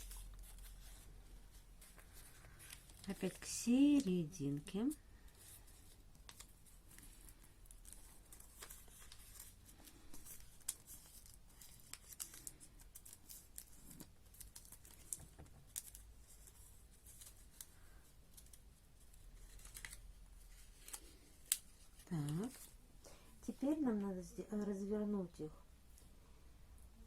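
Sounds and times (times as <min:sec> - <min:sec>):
paper being folded and creased: 0:00.0 - 0:22.8.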